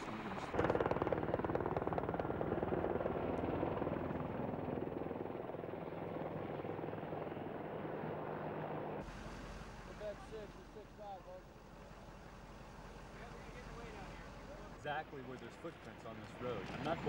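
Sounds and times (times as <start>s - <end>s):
helicopter rotor beating: 0.0s - 17.0s.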